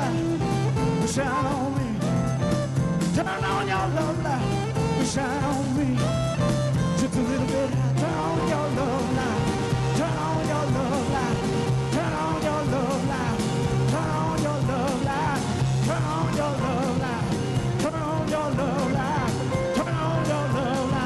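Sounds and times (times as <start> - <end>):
blues band playing: 0.0 - 21.0
drums: 0.0 - 21.0.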